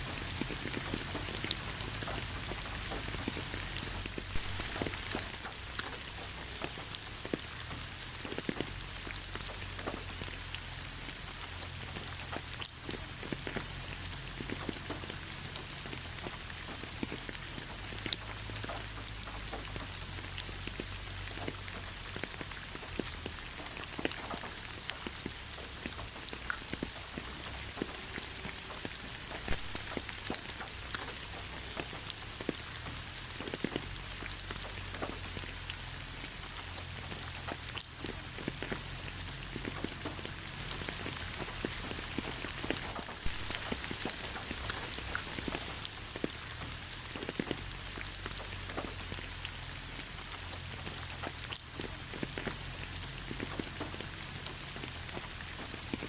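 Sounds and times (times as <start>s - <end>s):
raindrops pattering: 0.0s - 56.0s.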